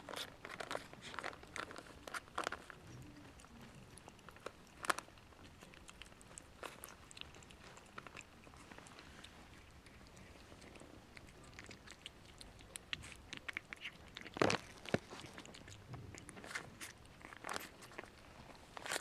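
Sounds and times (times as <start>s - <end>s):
puppy chewing and smacking: 0.0s - 19.0s.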